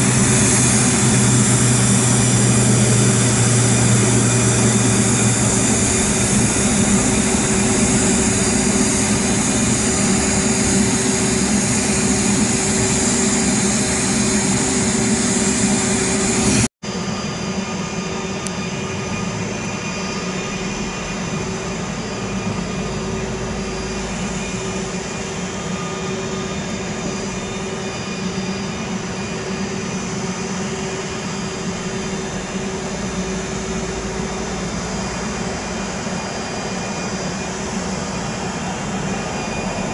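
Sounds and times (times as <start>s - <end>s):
turboprop engines running: 0.0s - 39.9s
turboprop plane droning on approach: 0.0s - 39.9s.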